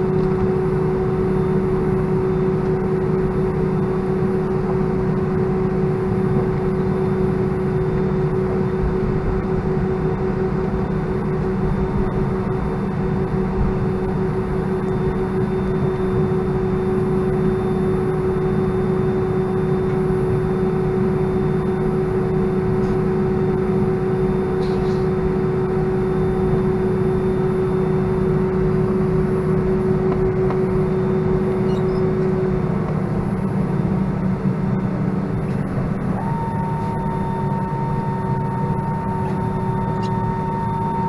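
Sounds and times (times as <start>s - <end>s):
aircraft engines idling drone: 0.0s - 41.0s.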